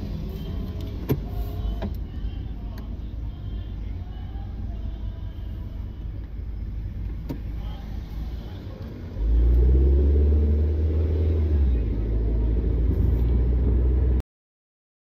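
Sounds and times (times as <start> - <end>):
car engine rumbling: 0.0 - 14.2.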